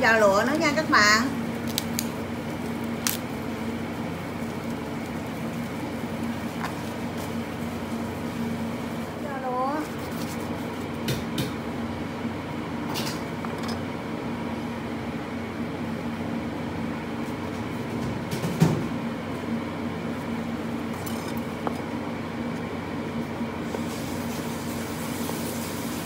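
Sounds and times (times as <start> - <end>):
low kitchen hum: 0.0 - 26.0.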